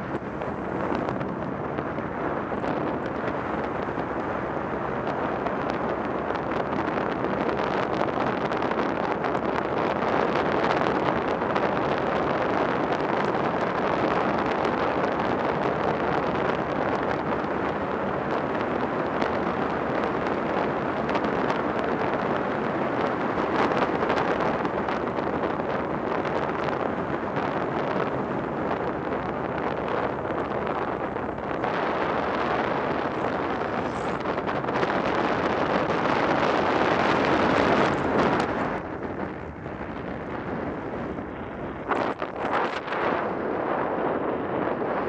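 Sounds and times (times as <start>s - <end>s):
tyre and road noise: 0.0s - 45.0s
wind rushing over microphone: 0.0s - 45.0s.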